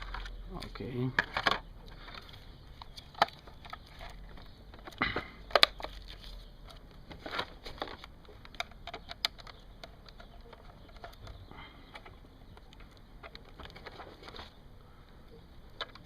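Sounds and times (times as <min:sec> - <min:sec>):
rustling handling noise: 0:00.0 - 0:14.9.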